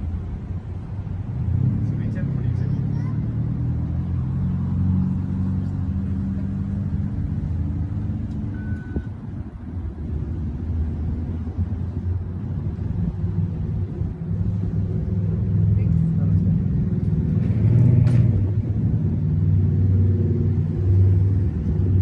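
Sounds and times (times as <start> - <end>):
engine drone with hum: 0.0 - 22.0.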